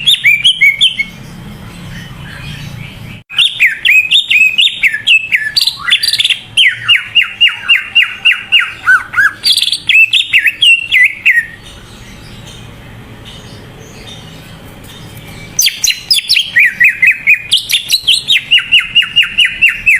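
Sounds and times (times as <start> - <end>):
bird singing whistled notes: 0.0 - 12.7, 15.0 - 19.9.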